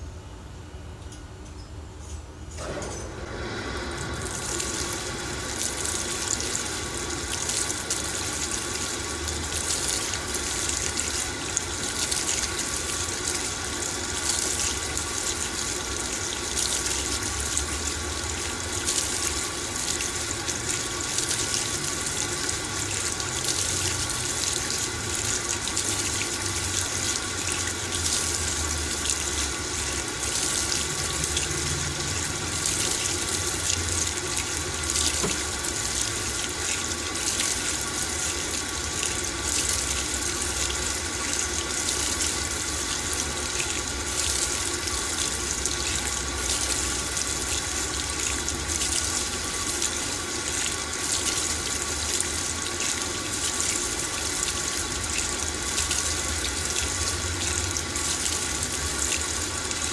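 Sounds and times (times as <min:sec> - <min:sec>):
washing machine low hum: 0:00.0 - 0:59.9
water pouring into washing machine: 0:02.6 - 0:59.9.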